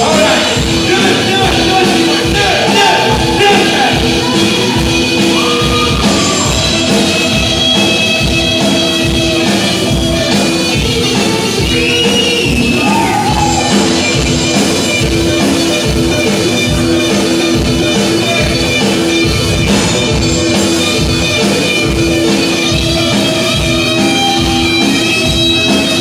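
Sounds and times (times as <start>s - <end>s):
rock band playing live: 0.0s - 26.0s
steady drum beat: 0.0s - 26.0s.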